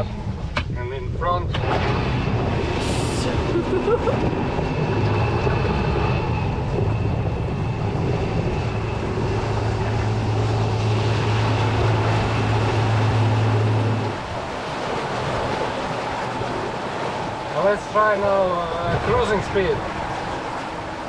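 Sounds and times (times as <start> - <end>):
wind noise: 0.0 - 21.0
electric boat motor humming: 1.6 - 21.0
rushing water: 1.6 - 21.0.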